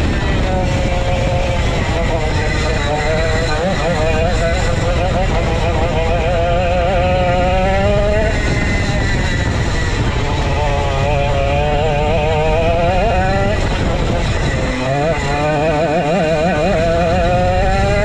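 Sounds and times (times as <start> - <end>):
kart engine running hard: 0.0 - 18.0.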